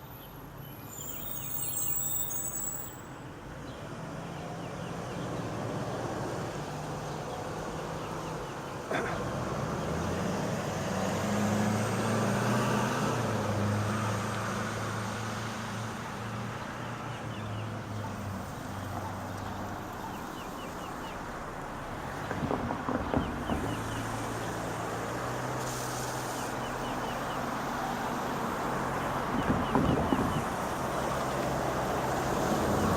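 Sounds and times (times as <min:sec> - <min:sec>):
vehicle passing by: 0:03.9 - 0:32.9.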